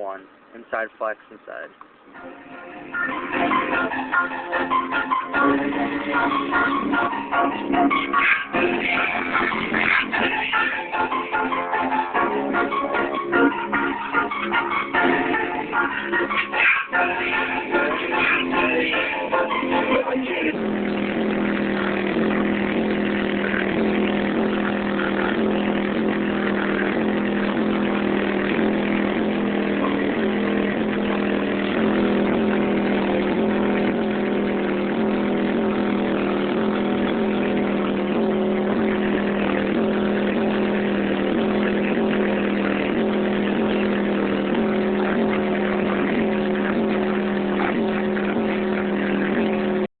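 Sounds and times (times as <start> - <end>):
distorted hip-hop bass from subwoofer: 0.0 - 49.9.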